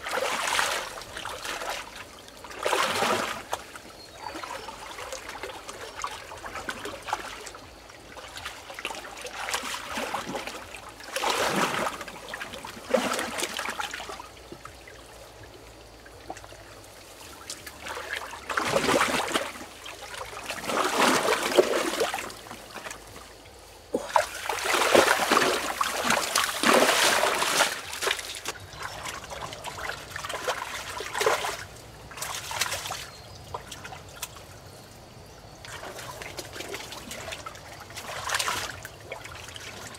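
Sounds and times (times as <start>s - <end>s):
shallow water splashing: 0.0s - 34.8s, 35.5s - 39.9s.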